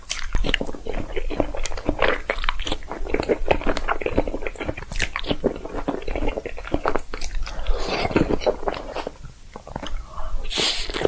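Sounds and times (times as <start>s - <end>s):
wet chewing and mouth smacks: 0.0s - 11.0s.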